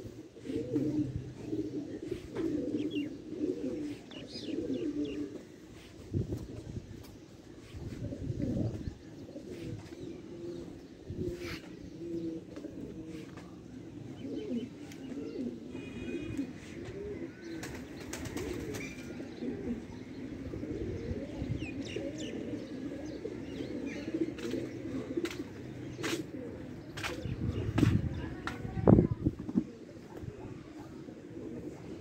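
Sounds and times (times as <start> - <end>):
pigeons cooing: 0.0 - 32.0.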